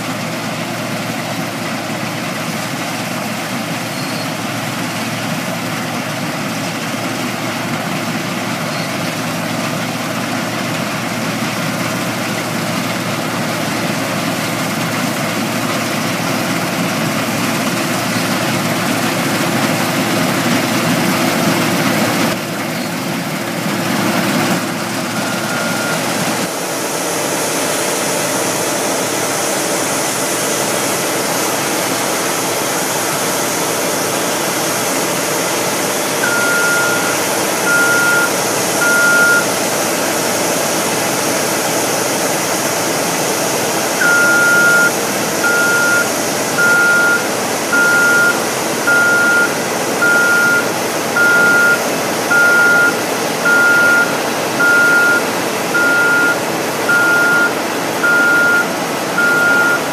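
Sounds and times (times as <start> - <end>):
combine harvester running: 0.0 - 59.9
grain auger unloading hiss: 0.0 - 59.9.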